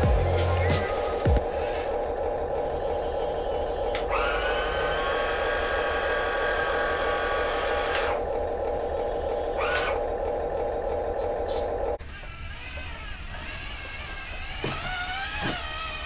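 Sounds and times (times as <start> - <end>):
constant hum: 0.0 - 16.0
small electric motor whining: 0.0 - 16.0.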